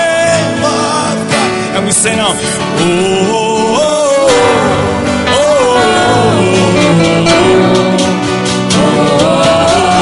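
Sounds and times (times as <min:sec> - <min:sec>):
man singing: 0:00.0 - 0:10.0
strummed acoustic guitar: 0:00.0 - 0:10.0.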